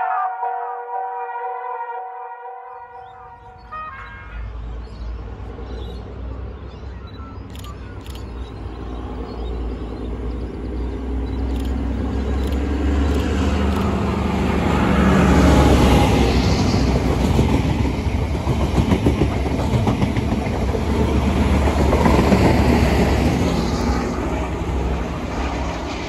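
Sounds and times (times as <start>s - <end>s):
diesel train engine: 3.3s - 26.0s
train wheel and track noise: 4.7s - 26.0s.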